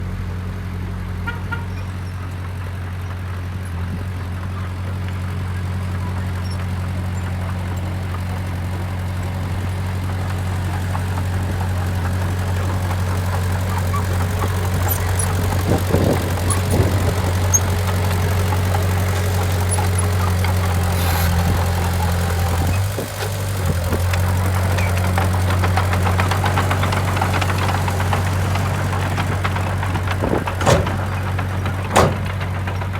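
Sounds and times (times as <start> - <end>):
earthmoving machine engine running: 2.6 - 32.9.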